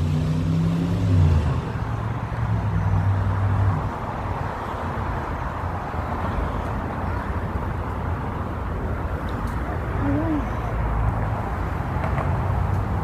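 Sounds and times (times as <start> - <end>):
steady traffic noise: 0.0 - 13.0
vehicle engine humming close by: 0.0 - 13.0.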